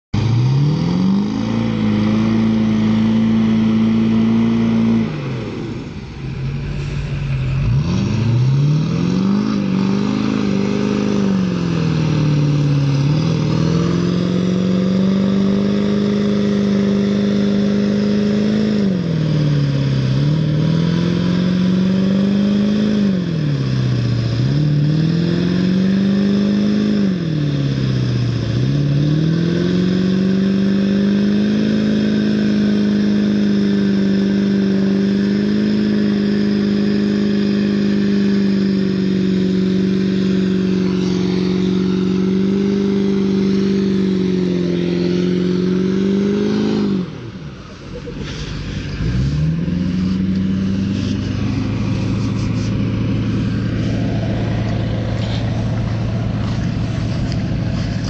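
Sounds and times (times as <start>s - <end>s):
diesel truck engine revving: 0.1s - 58.0s.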